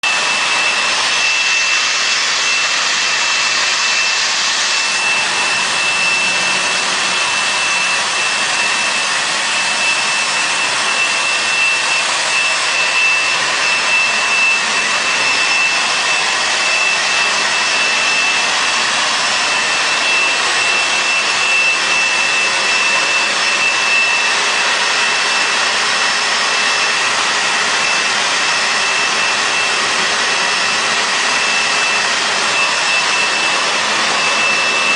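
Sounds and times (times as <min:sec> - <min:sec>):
vacuum motor hissing and whining: 0:00.0 - 0:34.9.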